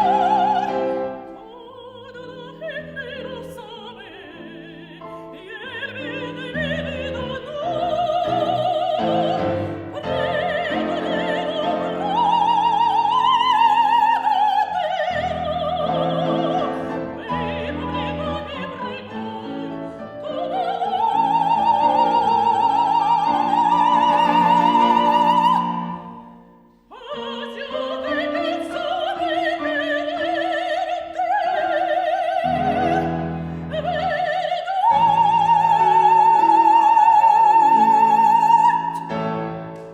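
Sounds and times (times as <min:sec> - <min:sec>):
piano accompaniment: 0:00.0 - 0:39.9
soprano singing: 0:00.0 - 0:39.9.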